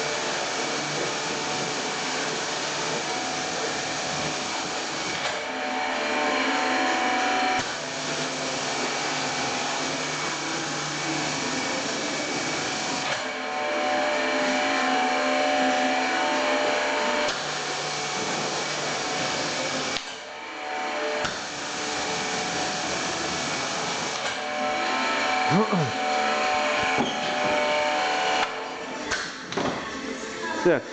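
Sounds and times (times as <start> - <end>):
pressure washer spraying: 0.0 - 13.1, 13.8 - 20.1, 21.0 - 29.4.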